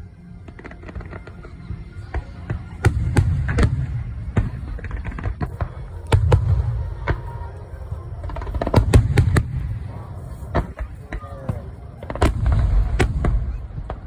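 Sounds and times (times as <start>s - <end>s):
fireworks booms: 2.2s - 14.0s.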